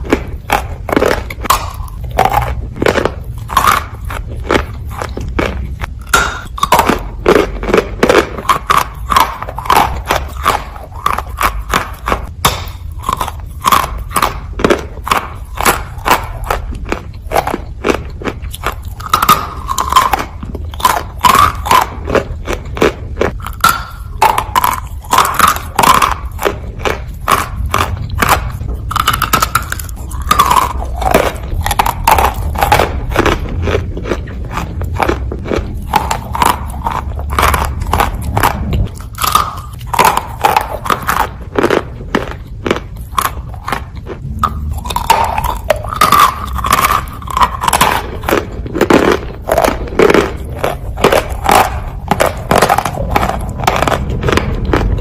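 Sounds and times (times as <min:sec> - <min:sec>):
chewing dry clay crunches: 0:00.0 - 0:55.0.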